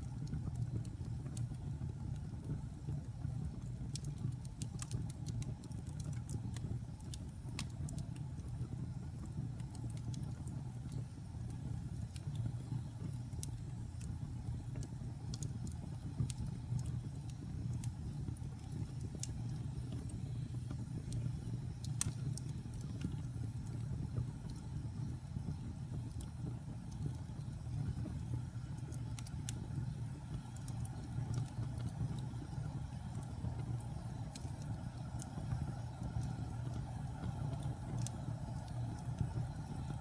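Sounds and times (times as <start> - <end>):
burning logs crackling and popping: 0.0 - 40.0
low rumble of flame: 0.0 - 40.0.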